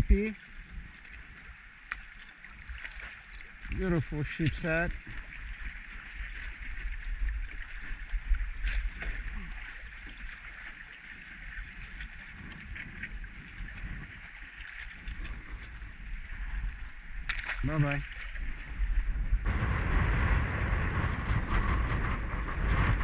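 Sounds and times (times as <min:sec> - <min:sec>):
water lapping against hull: 0:00.0 - 0:23.0
wind rumbling on microphone: 0:00.0 - 0:23.0.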